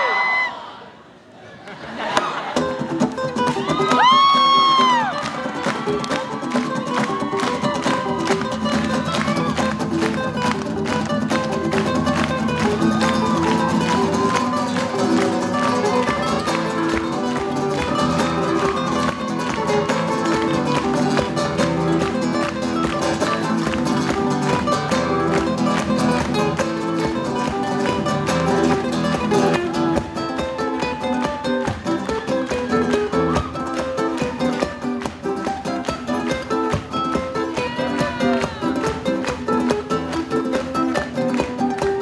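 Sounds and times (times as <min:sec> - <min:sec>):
acoustic guitars playing: 0:02.4 - 0:42.0.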